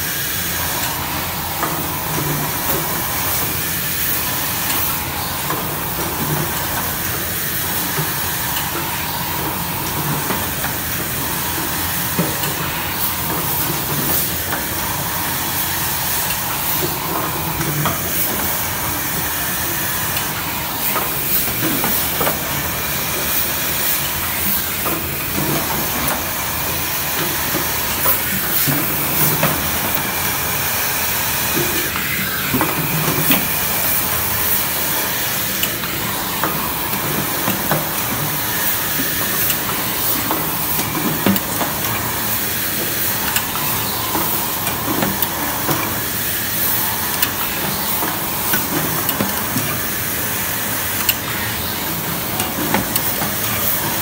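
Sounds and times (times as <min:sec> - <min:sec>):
printing machine hissing: 0:00.0 - 0:54.0
machine clicks and clacks: 0:00.4 - 0:54.0.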